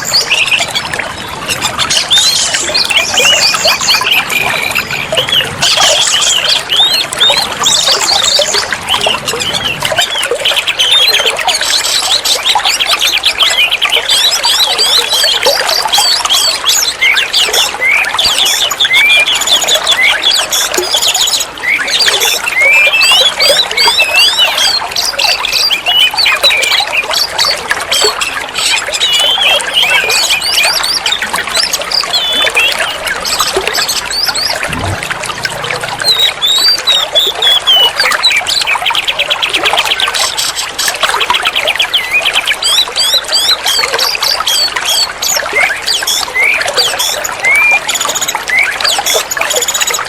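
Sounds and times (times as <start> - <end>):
songbird singing varied song: 0.0 - 50.0.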